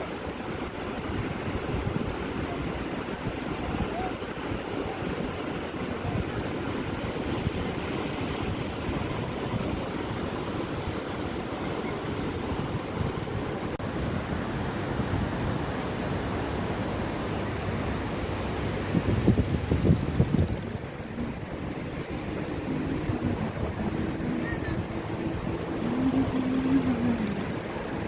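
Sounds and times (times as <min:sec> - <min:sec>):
sea waves washing on shore: 0:00.0 - 0:19.3, 0:20.6 - 0:28.0.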